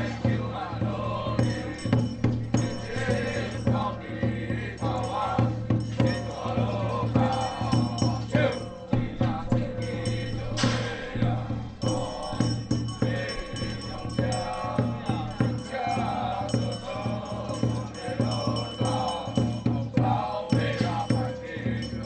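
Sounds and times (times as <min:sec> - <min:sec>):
regular percussion strokes: 0:00.0 - 0:22.0
wavering ritual melody: 0:00.0 - 0:22.0.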